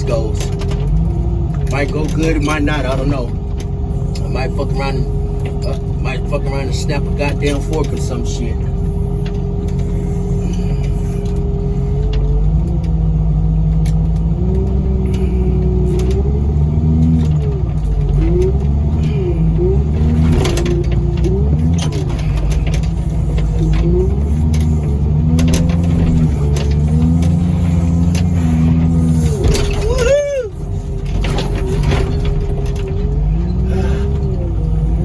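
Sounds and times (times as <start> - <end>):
loader engine running hard: 0.0 - 35.0.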